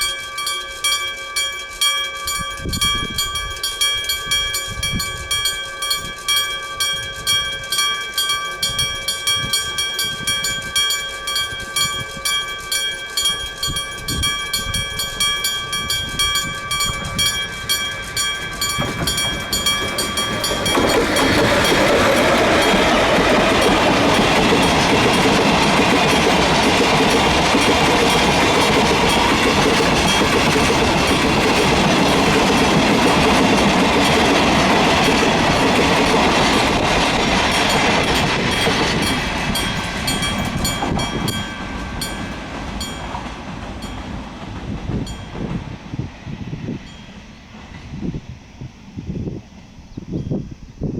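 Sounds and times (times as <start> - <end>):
level crossing bell ringing: 0.0 - 44.2
train wagons rumbling over rails: 0.0 - 50.9.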